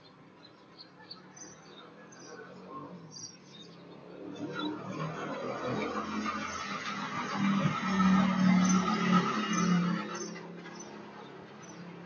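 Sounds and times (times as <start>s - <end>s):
auto-rickshaw engine humming: 0.0s - 12.0s
street traffic noise: 0.0s - 12.0s.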